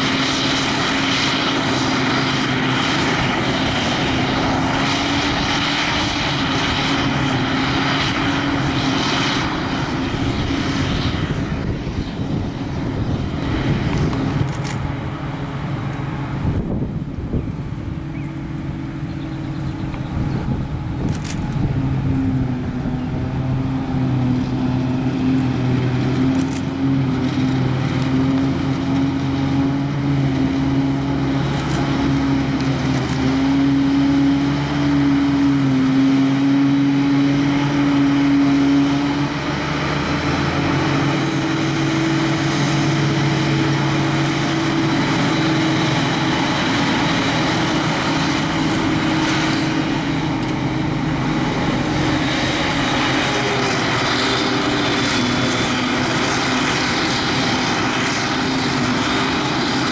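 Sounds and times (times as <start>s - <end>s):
forage harvester chopping grass: 0.0s - 17.3s, 19.6s - 59.9s
tractor engine: 0.0s - 59.9s.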